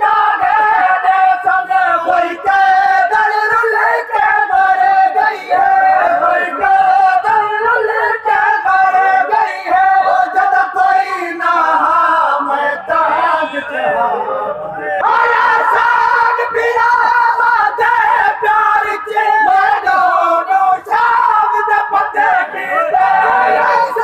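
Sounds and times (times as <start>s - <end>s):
lead reciter singing: 0.0s - 24.0s
men singing a lament in unison: 0.0s - 24.0s.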